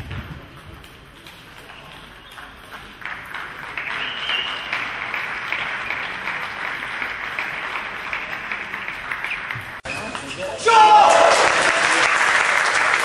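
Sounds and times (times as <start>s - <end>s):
spectators clapping: 2.0s - 13.0s.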